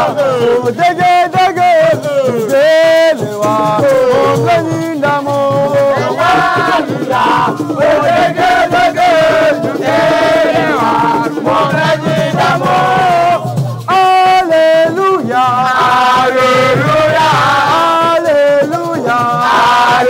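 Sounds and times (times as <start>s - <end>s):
music: 0.0s - 20.0s
voices singing a chant: 0.0s - 20.0s.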